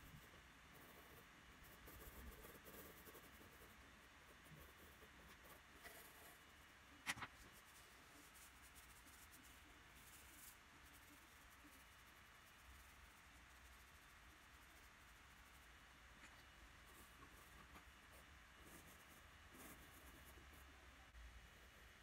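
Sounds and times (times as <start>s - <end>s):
pencil scratching on paper: 0.0s - 6.6s, 7.4s - 20.7s.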